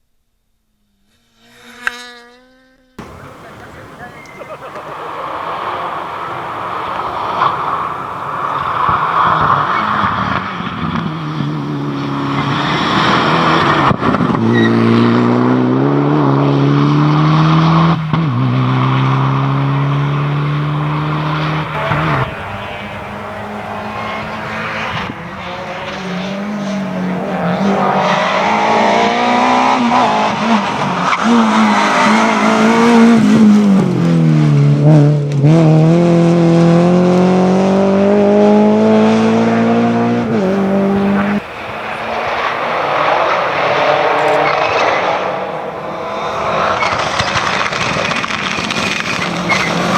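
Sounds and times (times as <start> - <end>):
tyre noise: 3.0 - 34.6, 35.3 - 49.9
rally car engine revving: 3.0 - 49.9.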